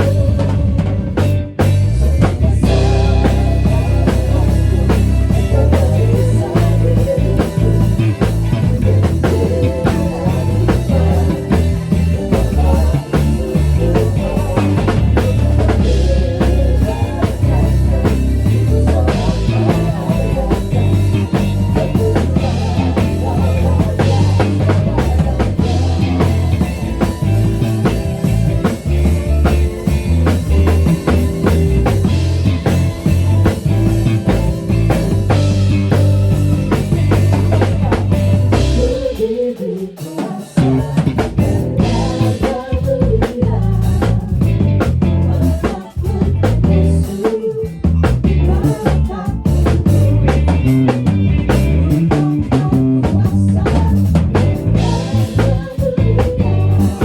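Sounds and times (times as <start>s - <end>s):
drum kit beat: 0.0s - 57.0s
rock band music: 0.0s - 57.0s.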